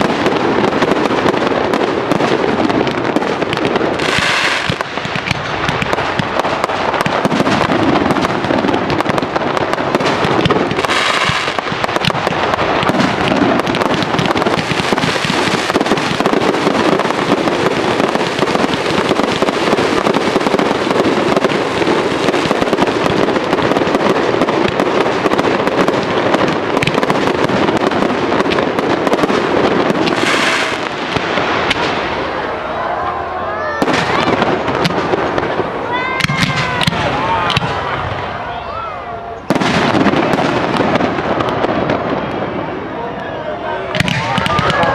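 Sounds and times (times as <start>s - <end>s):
fireworks crackling and popping: 0.0s - 44.9s.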